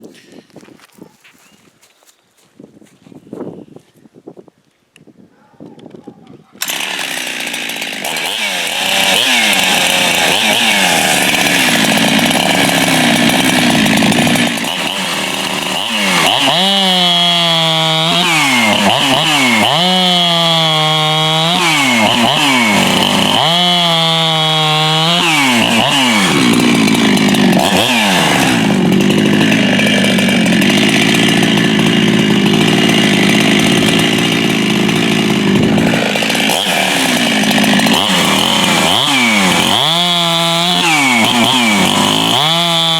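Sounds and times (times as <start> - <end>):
chainsaw cutting wood: 6.6 - 42.9
chainsaw revving: 6.6 - 42.9.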